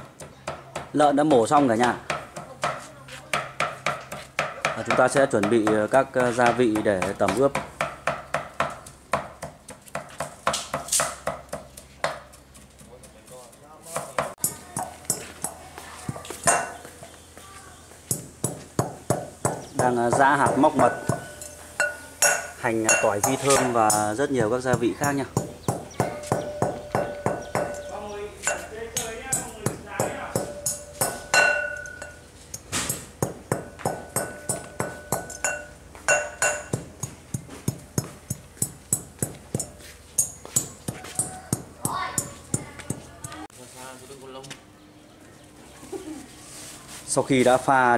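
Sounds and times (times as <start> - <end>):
pestle pounding in a mortar: 0.0 - 13.2, 13.9 - 17.1, 17.9 - 43.5.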